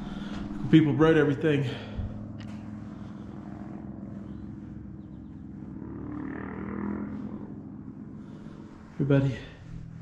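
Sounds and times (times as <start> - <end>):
engine drone: 0.0 - 10.0.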